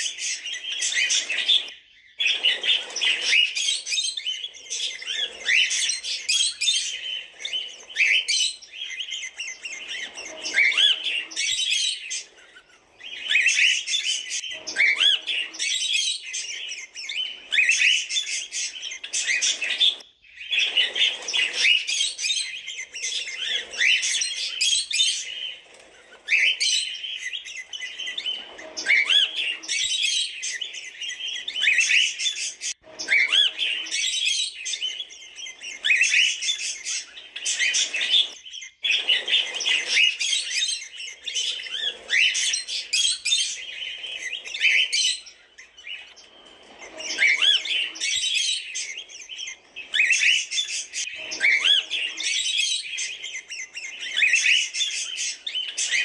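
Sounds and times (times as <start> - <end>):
cockatiels chirping: 0.0 - 56.0.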